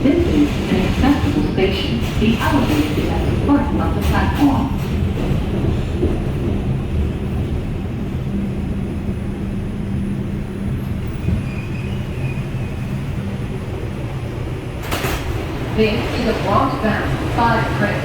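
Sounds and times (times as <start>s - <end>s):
subway car humming: 0.0s - 18.0s.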